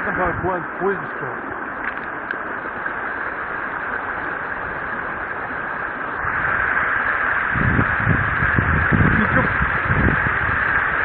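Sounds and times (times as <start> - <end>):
river water flowing over weir: 0.0 - 11.0.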